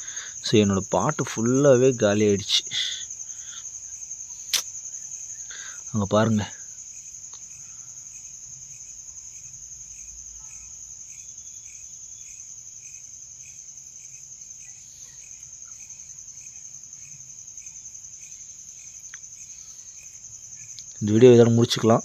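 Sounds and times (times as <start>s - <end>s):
crickets high fast trill: 0.0s - 22.0s
lower cricket chirp: 0.0s - 22.0s.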